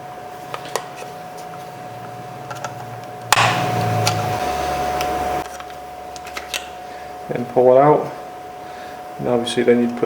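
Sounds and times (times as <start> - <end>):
loud steady hum: 0.0 - 9.8.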